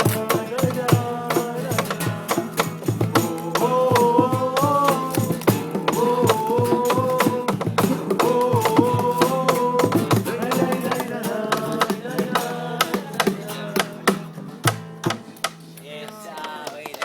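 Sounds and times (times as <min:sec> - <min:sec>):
acoustic guitar strumming: 0:00.0 - 0:15.8.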